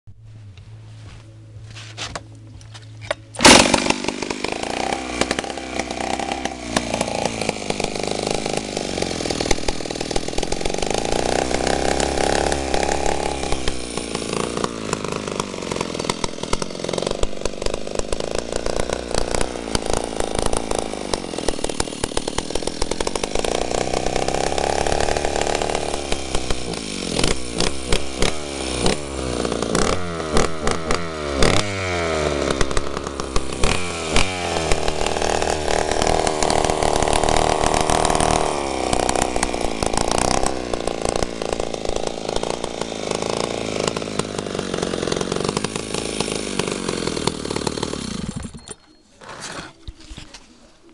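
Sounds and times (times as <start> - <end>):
chainsaw revving: 3.3 - 49.9.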